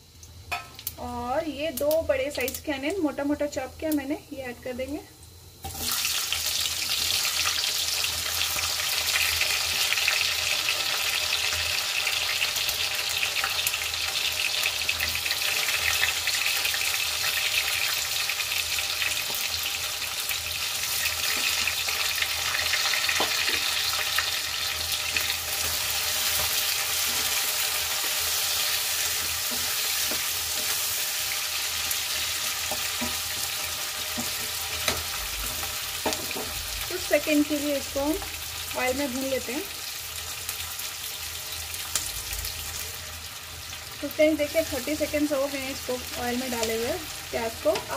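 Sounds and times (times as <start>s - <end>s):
onions sizzling in hot oil: 0.0s - 47.9s.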